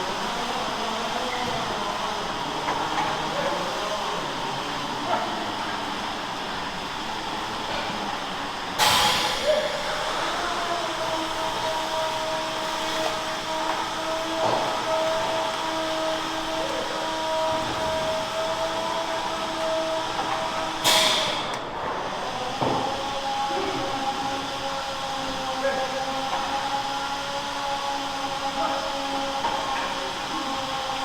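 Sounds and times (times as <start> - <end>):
milking machinery drone: 0.0 - 31.0.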